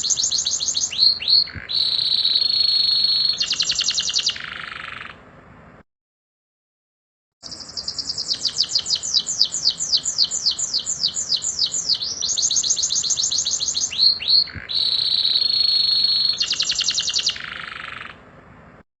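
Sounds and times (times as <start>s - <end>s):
canary singing: 0.0s - 5.2s, 7.4s - 18.2s.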